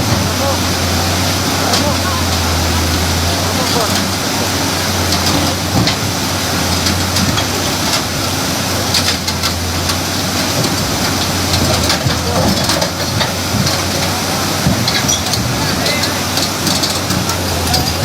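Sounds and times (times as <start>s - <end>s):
heavy vehicle engine humming: 0.0s - 18.0s.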